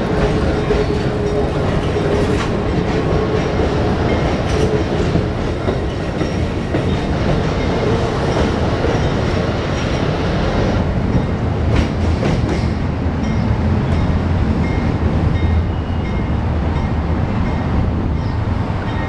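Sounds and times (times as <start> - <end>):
train cars rumbling: 0.0 - 19.0.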